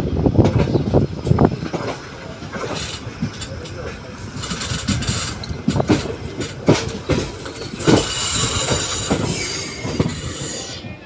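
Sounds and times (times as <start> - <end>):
wheels hissing on rail: 0.1 - 11.0
carriage clattering over rail joints: 0.4 - 10.4.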